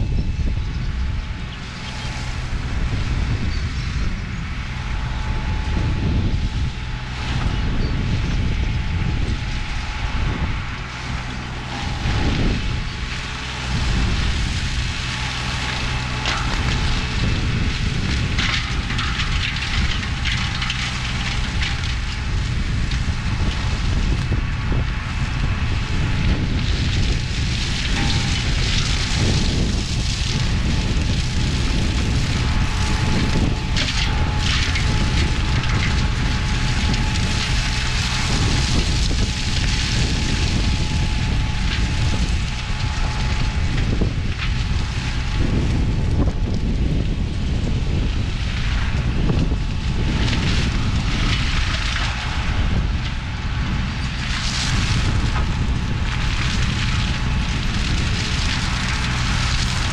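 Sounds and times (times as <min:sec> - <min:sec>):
tracked flail mower engine drone: 0:00.0 - 0:59.9.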